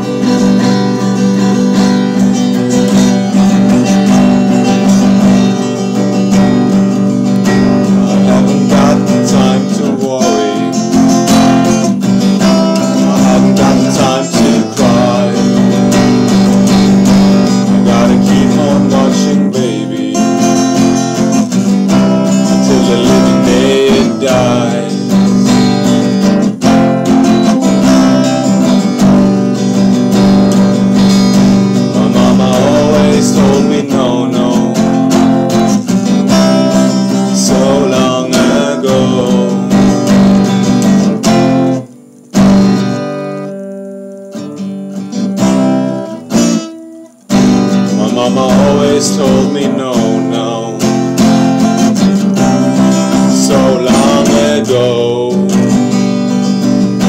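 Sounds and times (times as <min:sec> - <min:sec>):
man singing: 0:00.0 - 0:06.4, 0:07.4 - 0:28.8, 0:30.6 - 0:40.7, 0:47.8 - 0:56.4
acoustic guitar strumming: 0:00.0 - 0:57.0.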